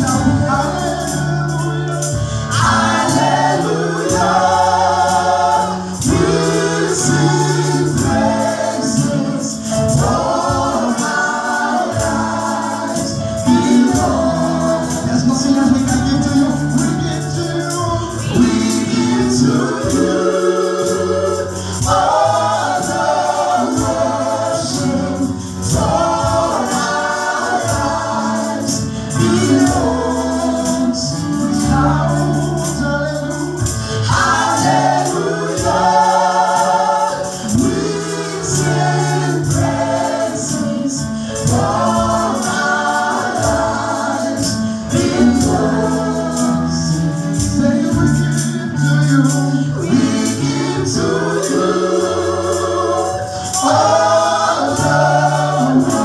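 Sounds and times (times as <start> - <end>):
band accompaniment: 0.0 - 56.0
choir singing gospel: 0.0 - 56.0
tambourine beat: 0.0 - 56.0.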